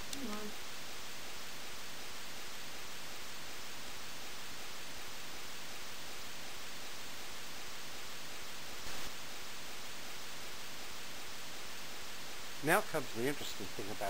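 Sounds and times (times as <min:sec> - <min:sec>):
recording noise floor hiss: 0:00.0 - 0:14.0.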